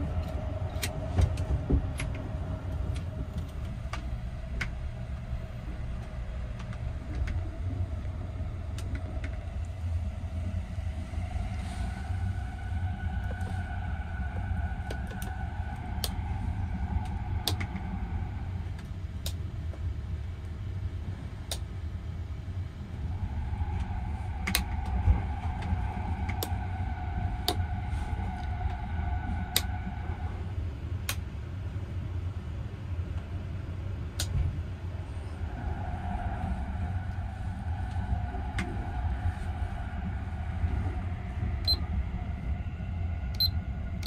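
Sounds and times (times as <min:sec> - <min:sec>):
mid-pitched hum: 0:00.0 - 0:44.0
train low rumble: 0:00.0 - 0:44.0.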